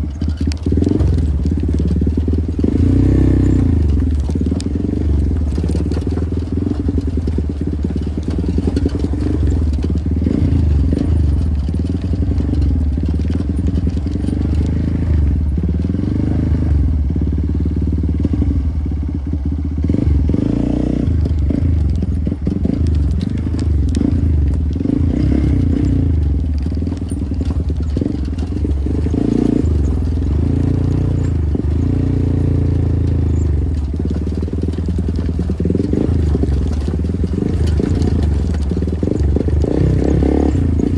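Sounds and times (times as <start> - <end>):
bike clattering over rough ground: 0.0 - 40.9
motorcycle engine revving: 0.0 - 40.9.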